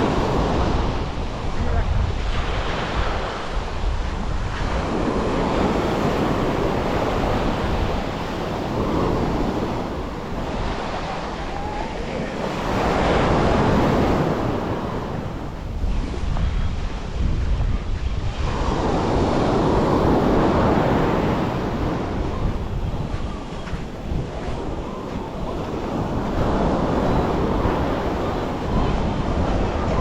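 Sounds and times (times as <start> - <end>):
sea waves breaking on shore: 0.0 - 30.0
wind buffeting microphone: 0.0 - 30.0.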